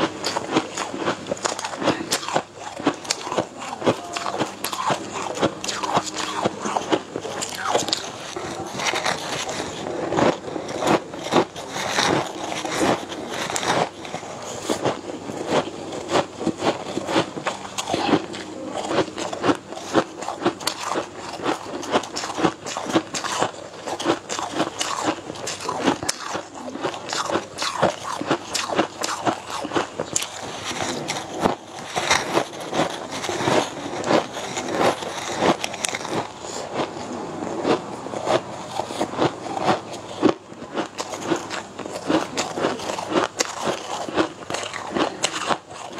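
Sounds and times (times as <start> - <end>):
person chewing and mouth smacking: 0.0 - 45.9.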